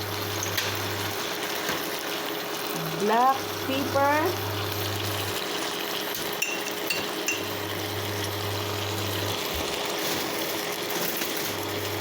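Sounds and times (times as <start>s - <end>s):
beef sizzling in a pan: 0.0s - 12.0s.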